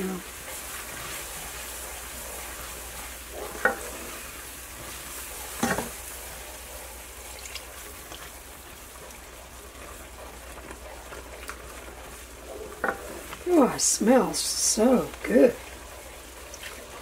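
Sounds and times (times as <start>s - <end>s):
sauce sizzling in a skillet: 0.0s - 17.0s
wooden spoon stirring: 0.1s - 17.0s.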